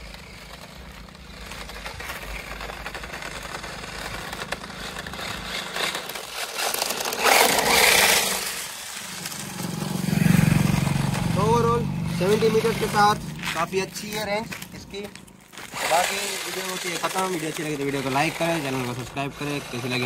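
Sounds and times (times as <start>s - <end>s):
rc car motor and tyre noise: 0.0s - 20.0s.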